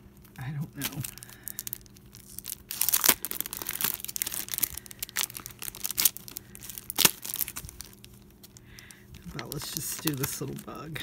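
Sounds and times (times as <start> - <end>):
plastic packaging crinkling: 0.2 - 11.0.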